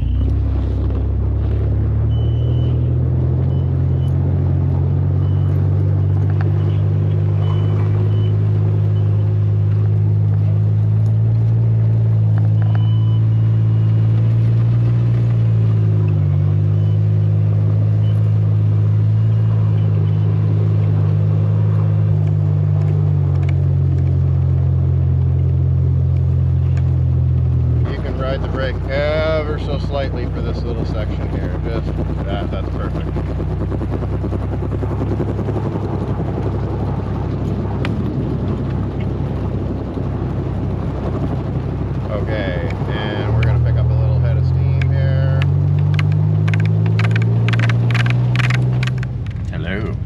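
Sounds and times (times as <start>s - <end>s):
vehicle engine running low revs: 0.0s - 50.0s.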